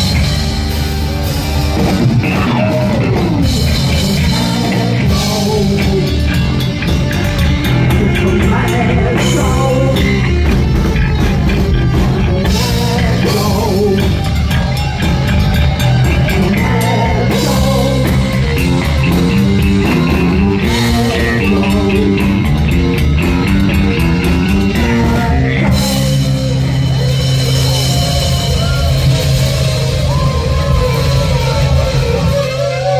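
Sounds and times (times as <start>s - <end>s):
heavy metal band playing: 0.0s - 32.9s
person singing: 1.9s - 23.0s, 23.7s - 32.9s.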